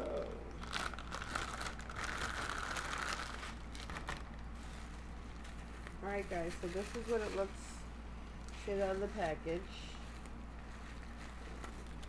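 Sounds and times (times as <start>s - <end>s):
packaging crinkling and rustling: 0.6s - 12.0s.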